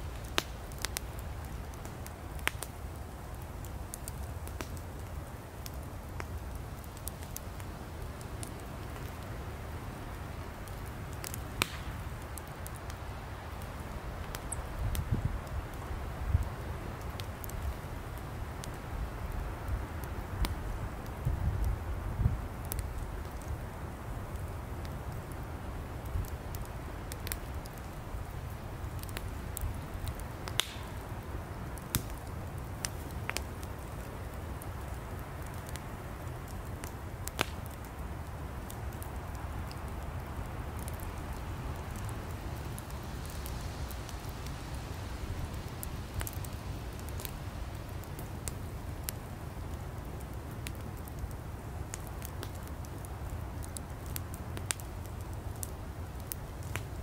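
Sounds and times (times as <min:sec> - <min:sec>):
campfire flames rumbling: 0:00.0 - 0:57.0
firewood crackling and popping: 0:00.0 - 0:57.0.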